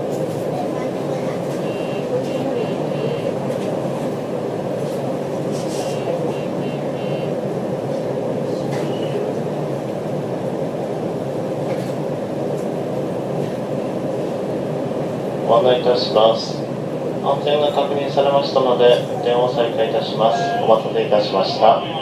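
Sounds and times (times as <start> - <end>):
train equipment hum and rush: 0.0 - 22.0.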